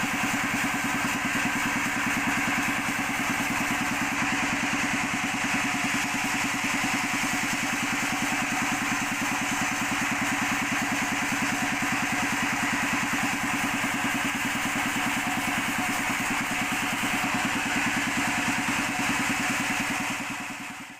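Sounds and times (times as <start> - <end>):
sawmill engine pulsing: 0.0 - 20.9.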